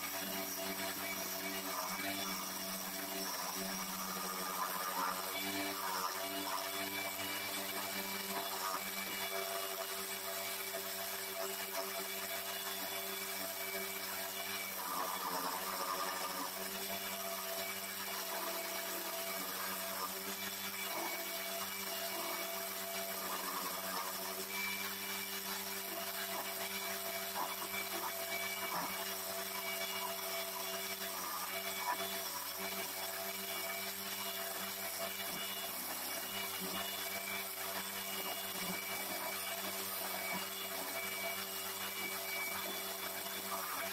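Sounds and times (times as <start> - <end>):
lathe motor running: 0.0 - 43.9.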